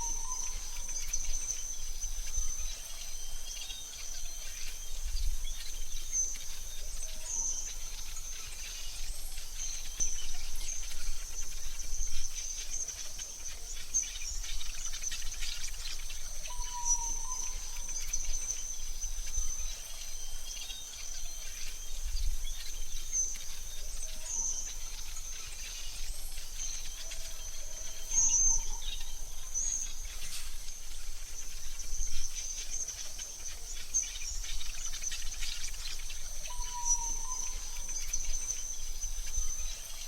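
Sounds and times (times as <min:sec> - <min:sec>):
bird chirps: 0:00.0 - 0:40.0.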